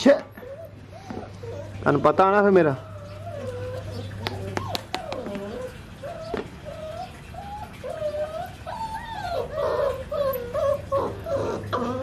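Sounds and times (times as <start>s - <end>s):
puppy whimpering: 0.1s - 12.0s.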